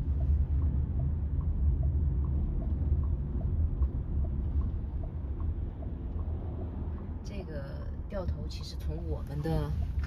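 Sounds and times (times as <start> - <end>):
turn signal ticking: 0.0 - 10.0.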